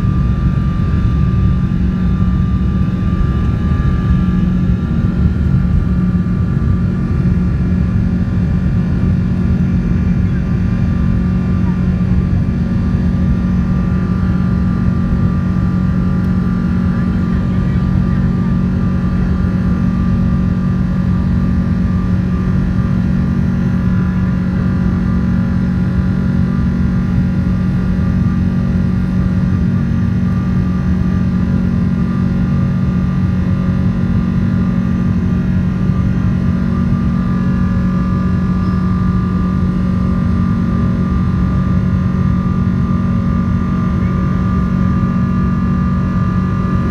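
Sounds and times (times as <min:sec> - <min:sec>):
jet engines rumbling and whining: 0:00.0 - 0:46.9.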